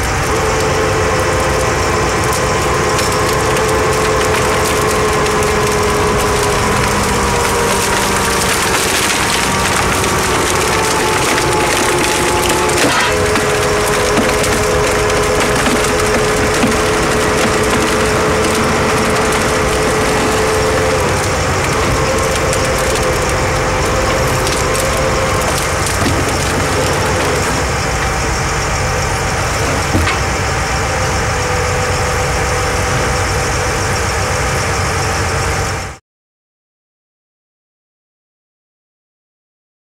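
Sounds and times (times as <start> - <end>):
wood cracking and splintering: 0.0 - 33.4
excavator running: 0.0 - 36.0
splitter whine: 0.0 - 36.0.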